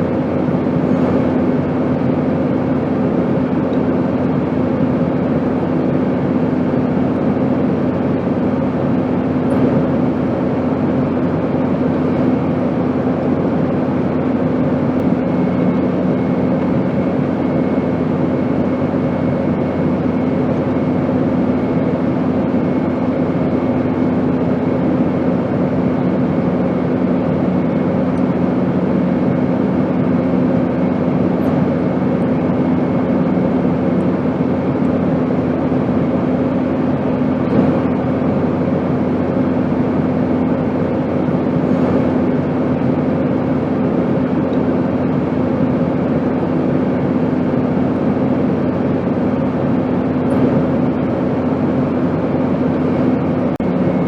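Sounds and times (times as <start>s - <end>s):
airplane cabin rush and hum: 0.0s - 54.0s
lower hum tone: 0.0s - 54.0s.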